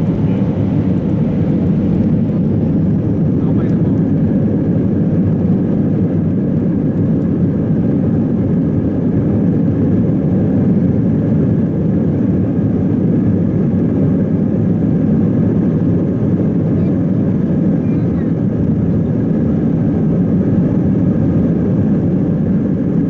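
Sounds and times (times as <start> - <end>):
aircraft cabin engine rumble: 0.0 - 23.0.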